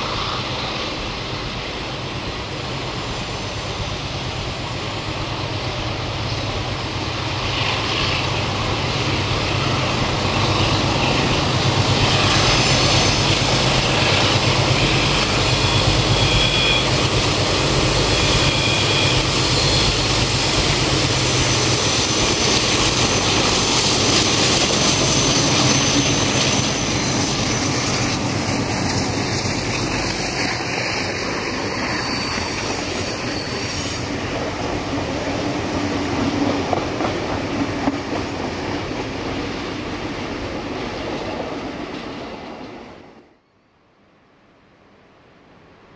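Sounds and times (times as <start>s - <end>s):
train carriages rolling by: 0.0s - 43.7s
diesel locomotives passing: 0.0s - 45.9s.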